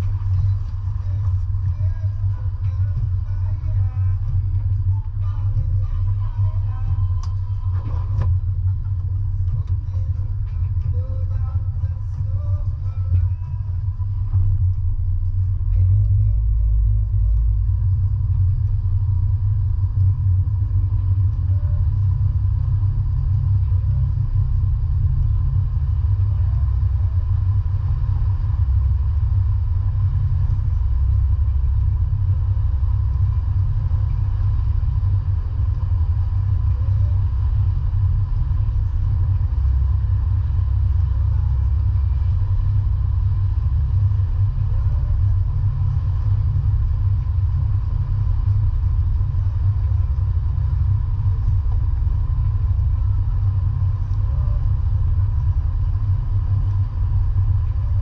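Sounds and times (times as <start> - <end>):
vehicle rumble: 0.0 - 58.0.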